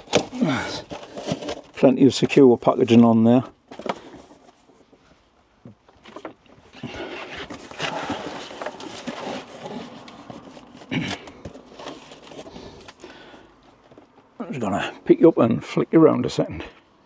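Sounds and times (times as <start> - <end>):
cardboard rustling and scraping: 0.0 - 14.1.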